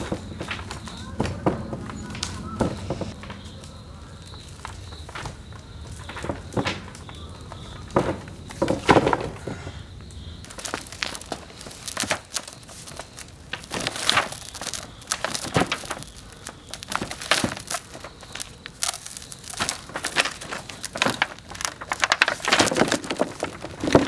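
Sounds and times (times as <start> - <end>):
plastic sheets crunching: 0.0 - 9.5, 10.5 - 24.0.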